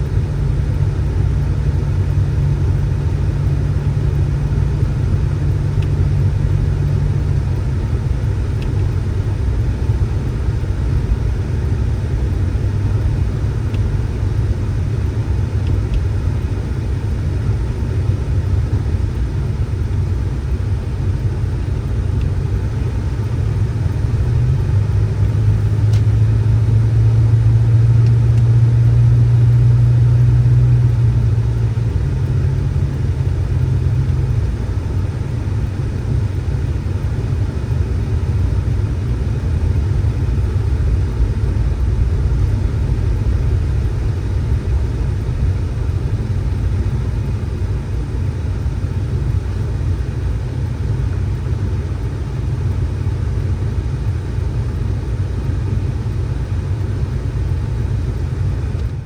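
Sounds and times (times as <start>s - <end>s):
motor vehicle engine rumbling: 0.0s - 59.0s.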